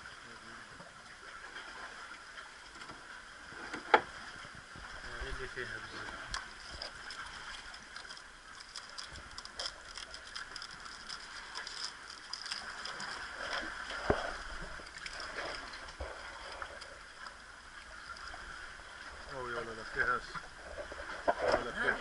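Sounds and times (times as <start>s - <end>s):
seawater washing against rocks: 3.5s - 22.0s.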